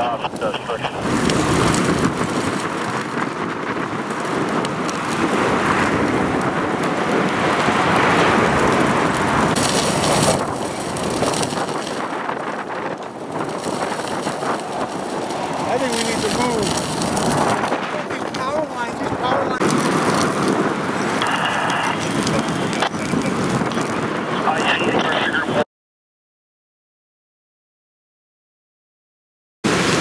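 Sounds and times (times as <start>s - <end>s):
bright hiss of flames: 0.0s - 24.8s
brush fire crackling: 0.0s - 25.6s, 29.7s - 30.0s.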